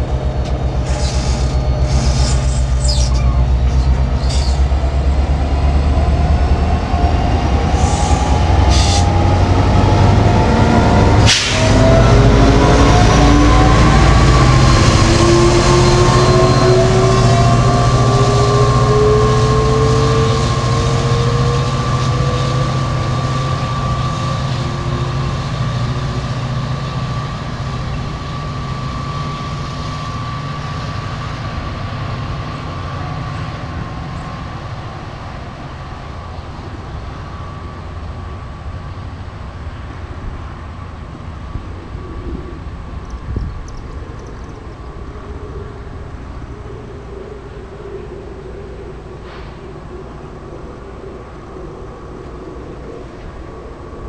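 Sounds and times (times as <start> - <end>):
locomotive engine hum: 0.0 - 54.0
rising train whine: 0.0 - 54.0.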